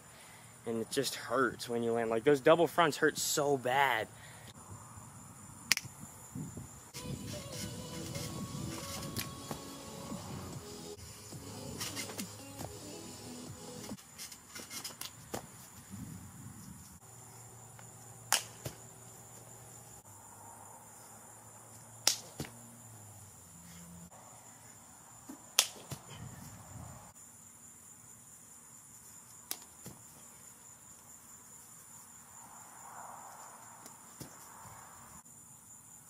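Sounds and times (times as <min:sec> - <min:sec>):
high-pitched insect chorus: 0:03.1 - 0:36.0.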